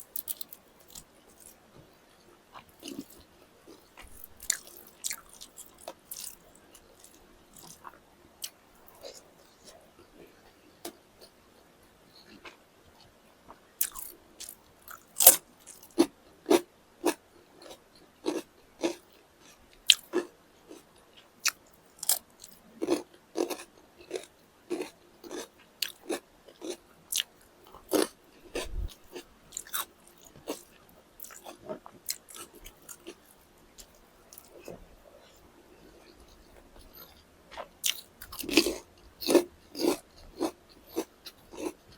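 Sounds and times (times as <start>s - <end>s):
person crunching and chewing: 0.0s - 1.6s, 2.6s - 9.8s, 13.8s - 20.8s, 21.4s - 34.8s, 36.8s - 41.9s.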